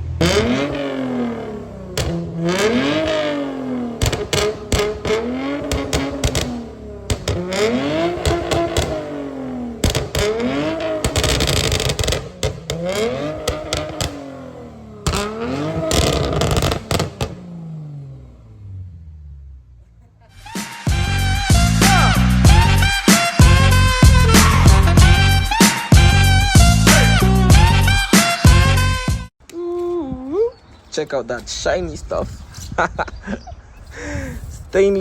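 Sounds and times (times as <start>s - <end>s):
car engine revving: 0.0s - 29.3s
exhaust crackles: 0.0s - 29.3s.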